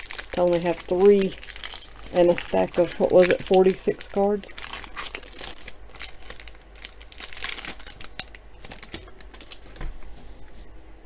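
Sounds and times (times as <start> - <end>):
trading cards and wrapper crinkling: 0.0 - 9.8.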